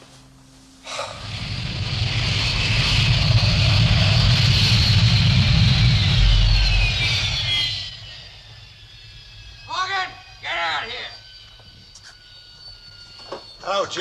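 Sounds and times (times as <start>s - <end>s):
engine whine falling in pitch: 0.2s - 14.0s
jet engine roar: 0.8s - 14.0s.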